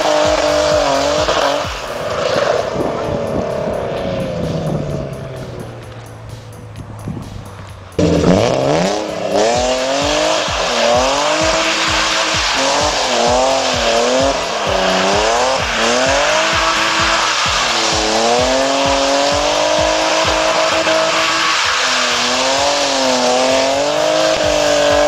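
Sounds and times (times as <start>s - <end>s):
car engine revving: 0.0s - 25.0s
tires squealing: 0.0s - 25.0s.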